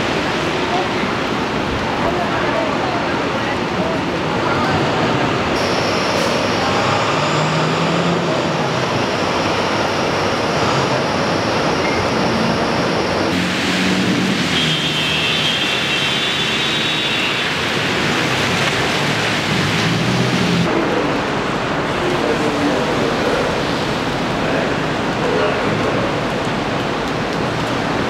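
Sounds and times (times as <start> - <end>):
heavy rain pouring: 0.0 - 28.0
street traffic hum: 0.0 - 28.0.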